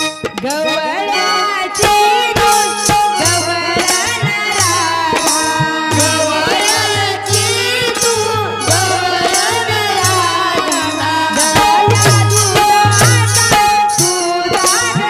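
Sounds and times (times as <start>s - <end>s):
barrel drum beats: 0.0s - 0.8s, 1.8s - 15.0s
jingling percussion: 0.0s - 15.0s
woman singing into microphone: 0.0s - 15.0s.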